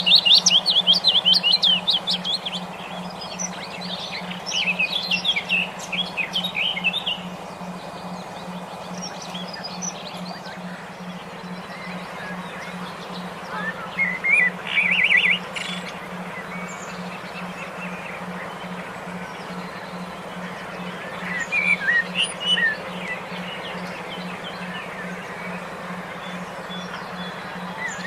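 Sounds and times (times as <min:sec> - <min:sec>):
pulsing low hum: 0:00.0 - 0:28.0
songbirds chirping: 0:00.0 - 0:28.0.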